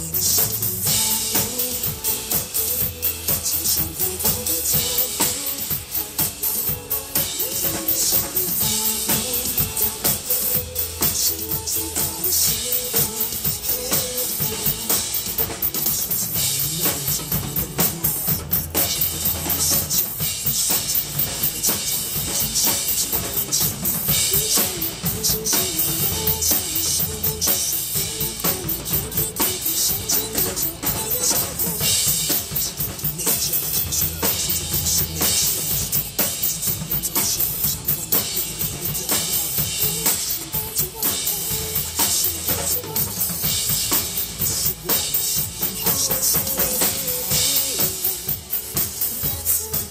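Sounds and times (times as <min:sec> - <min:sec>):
drum kit playing a steady beat: 0:00.0 - 0:49.9
pop backing track: 0:00.0 - 0:49.9.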